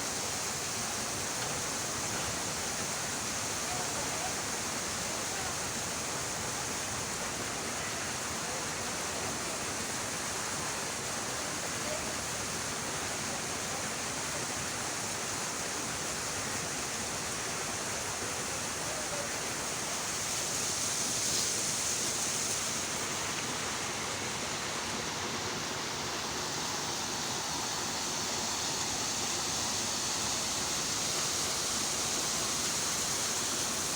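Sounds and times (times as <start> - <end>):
running water rushing: 0.0 - 33.9.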